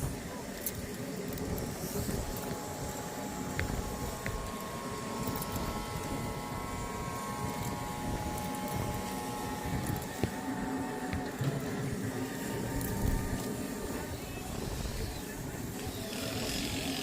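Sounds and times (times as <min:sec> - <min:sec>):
faint steady whine: 0:00.0 - 0:17.0
machinery rumbling: 0:00.0 - 0:17.0.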